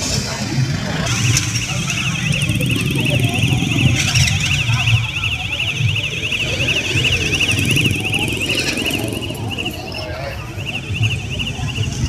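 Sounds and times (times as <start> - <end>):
motorbike traffic rumble: 0.0 - 12.0
electronic siren warbling: 0.4 - 12.0.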